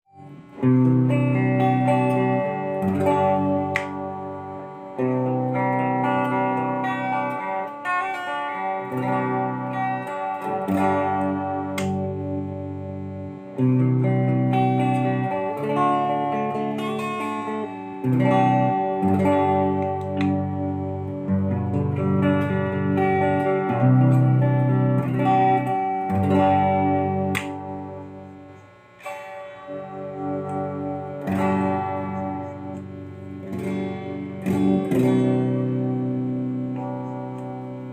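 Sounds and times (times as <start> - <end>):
electric guitar chords ringing: 0.1 - 37.9.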